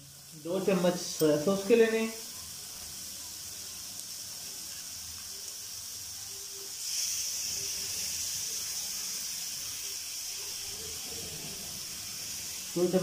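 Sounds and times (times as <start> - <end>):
stir-fry sizzling in a wok: 0.0 - 13.0.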